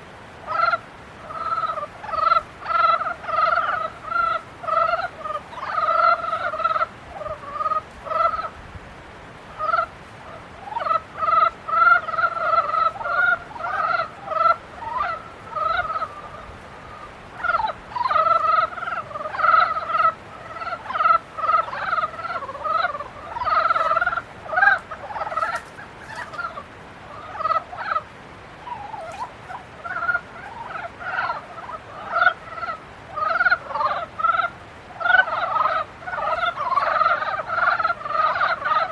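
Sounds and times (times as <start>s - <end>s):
chorus of frogs croaking: 0.0s - 8.6s, 9.5s - 38.9s.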